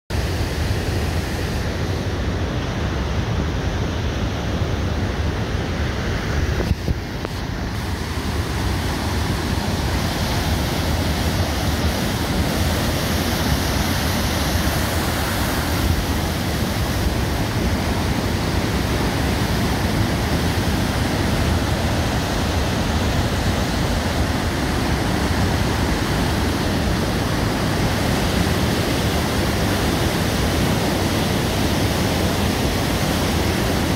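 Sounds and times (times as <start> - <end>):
river rushing in flood: 0.1 - 33.9.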